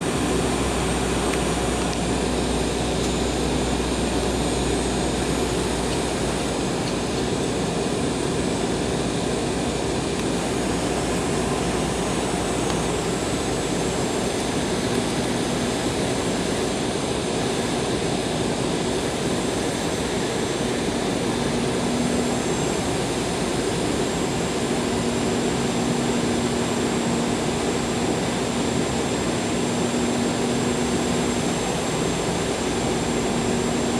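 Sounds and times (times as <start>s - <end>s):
jet engine and airflow in cabin: 0.0s - 33.9s.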